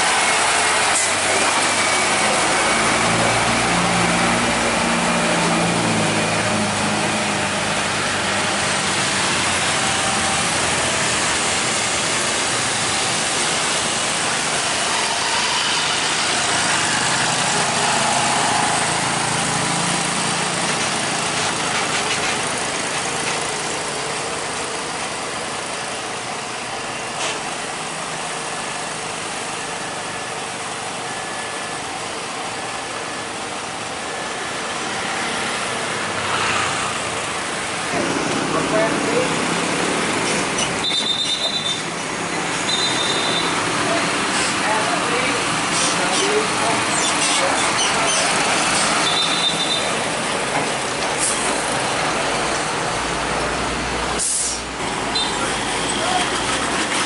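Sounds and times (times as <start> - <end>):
road noise: 0.0 - 57.0
truck engines running: 0.0 - 57.0.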